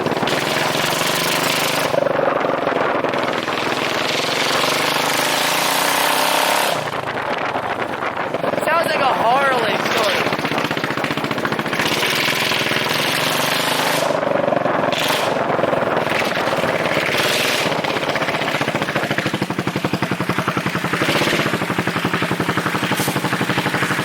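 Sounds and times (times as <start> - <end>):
scooter exhaust pulses: 0.0 - 24.0.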